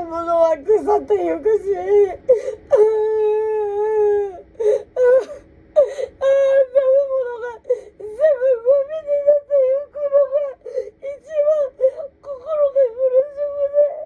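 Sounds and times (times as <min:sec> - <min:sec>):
woman sobbing and wailing: 0:00.0 - 0:14.0.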